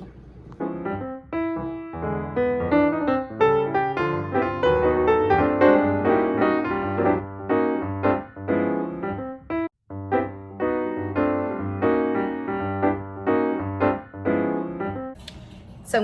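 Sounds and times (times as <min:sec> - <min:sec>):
piano music: 0:00.0 - 0:15.2.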